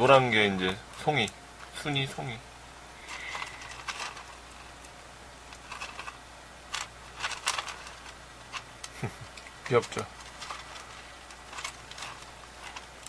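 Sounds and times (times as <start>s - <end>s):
hamsters crunching seeds: 0.0s - 2.4s, 3.0s - 13.0s.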